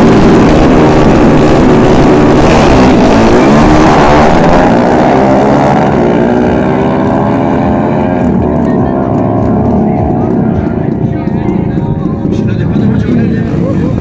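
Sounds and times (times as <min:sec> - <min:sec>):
motorcycle engines at full throttle: 0:00.0 - 0:14.0.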